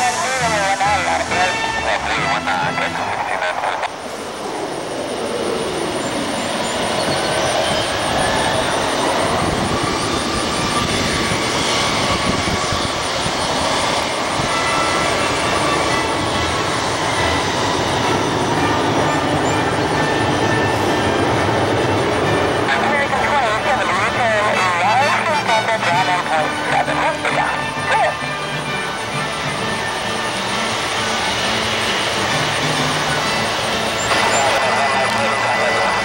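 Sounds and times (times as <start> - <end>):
jet engine rush: 0.0 - 36.0.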